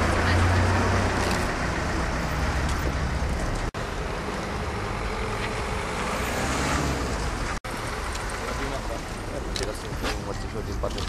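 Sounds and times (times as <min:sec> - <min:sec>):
cars running along road: 0:00.0 - 0:11.0.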